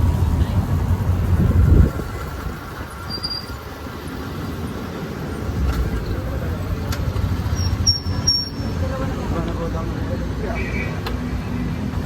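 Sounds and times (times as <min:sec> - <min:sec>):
motorcycle engine rumbling: 0:00.0 - 0:12.0
road noise: 0:00.0 - 0:12.0.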